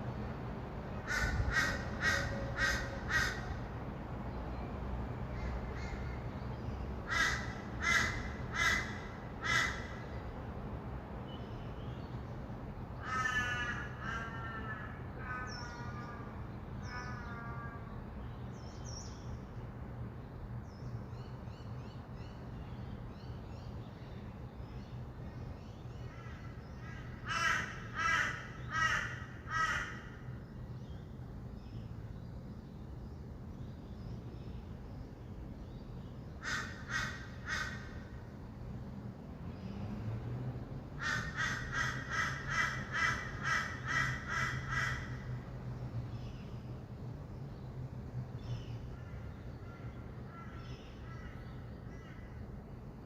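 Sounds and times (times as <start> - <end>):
distant city traffic rumble: 0.0 - 53.0.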